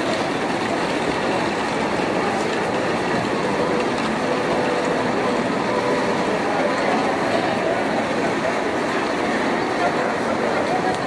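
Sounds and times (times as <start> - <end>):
marching crowd voices: 0.0 - 11.0.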